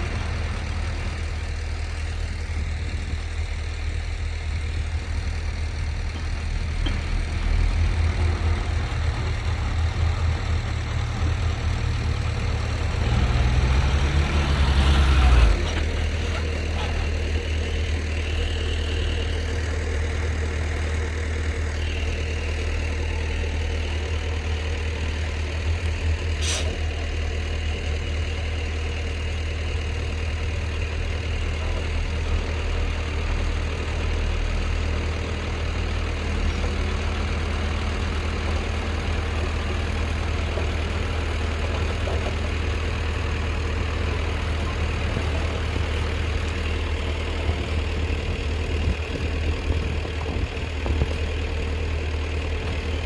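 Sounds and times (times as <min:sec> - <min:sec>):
heavy diesel engine rumbling: 0:00.0 - 0:53.0.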